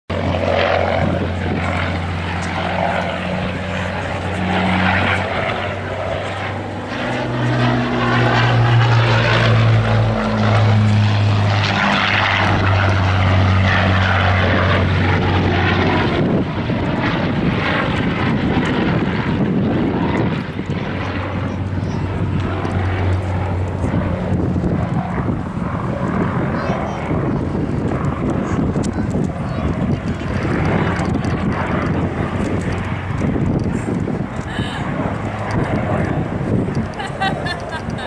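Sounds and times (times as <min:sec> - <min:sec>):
propeller aircraft engine passing: 0:00.1 - 0:38.0.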